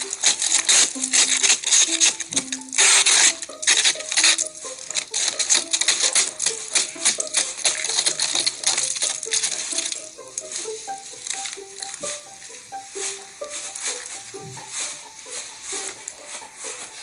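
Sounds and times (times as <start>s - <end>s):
freezing rain clattering on ice: 0.0s - 17.0s
pitched tinkling notes: 0.9s - 17.0s.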